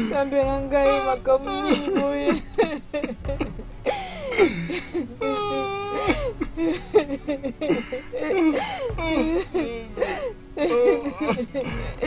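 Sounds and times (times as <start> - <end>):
people crying: 0.0 - 12.0.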